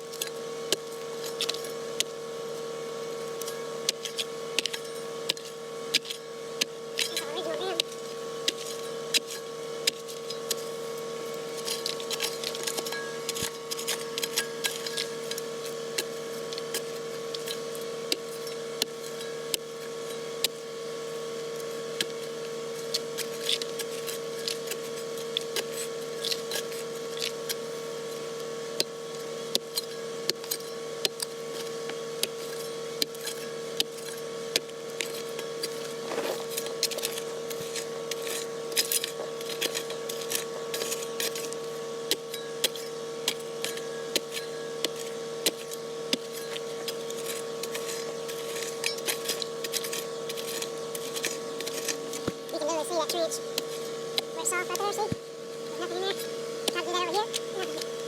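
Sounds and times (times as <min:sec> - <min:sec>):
excavator engine and hydraulics whine: 0:00.0 - 0:58.0.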